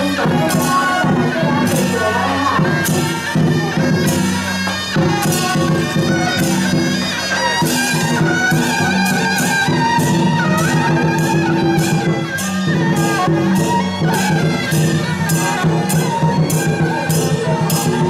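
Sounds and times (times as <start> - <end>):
bagpipe-like wind instrument: 0.0 - 18.0
percussion strikes: 0.0 - 18.0.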